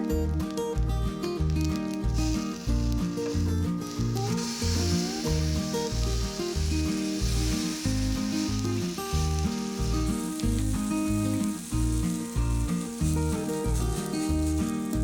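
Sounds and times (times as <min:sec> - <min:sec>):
rice balls sizzling on grill: 0:01.4 - 0:15.0.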